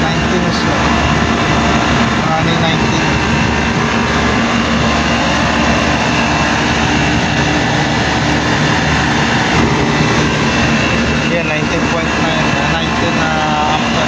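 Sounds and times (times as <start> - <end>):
air conditioner compressor humming: 0.0 - 14.0.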